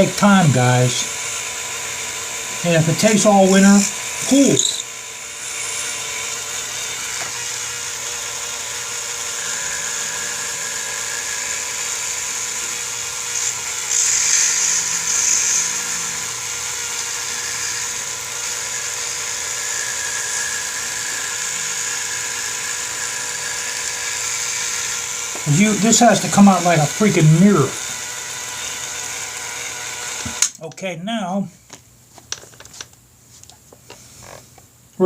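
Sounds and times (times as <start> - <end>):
rotary tool whining: 0.0 - 30.6.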